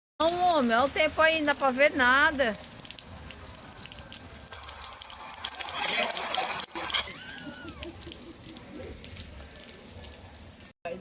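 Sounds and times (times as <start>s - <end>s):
heavy rain pouring: 0.2s - 10.7s.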